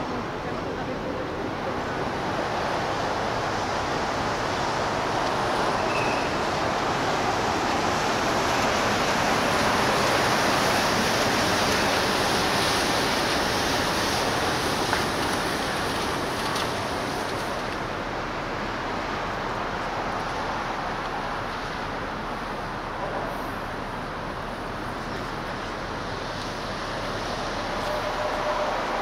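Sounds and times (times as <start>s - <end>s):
ship churning water and machinery: 0.0s - 29.0s.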